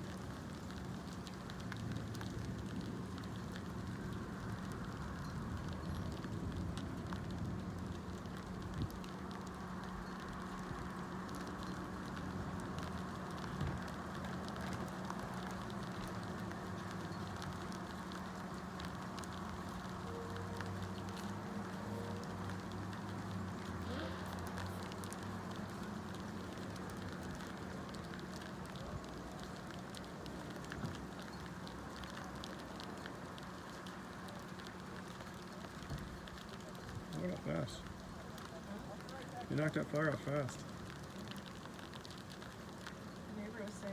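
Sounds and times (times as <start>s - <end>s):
light rain pattering: 0.0s - 43.9s.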